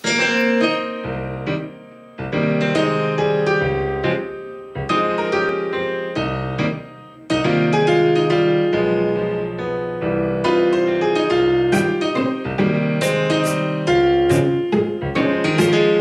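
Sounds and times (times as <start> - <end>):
piano playing hymn music: 0.0 - 16.0.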